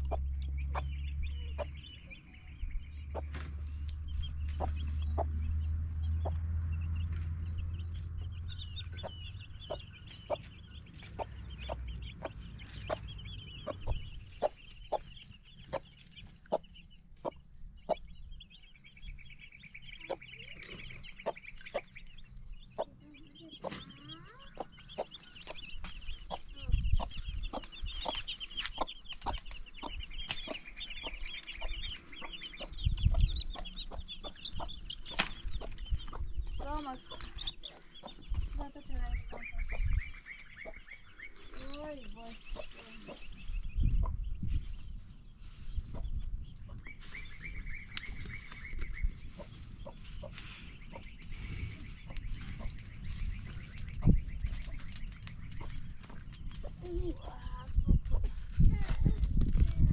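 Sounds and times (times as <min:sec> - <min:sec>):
hen clucking: 0:00.0 - 0:44.3, 0:45.8 - 0:58.3
low rumble: 0:00.0 - 0:59.9.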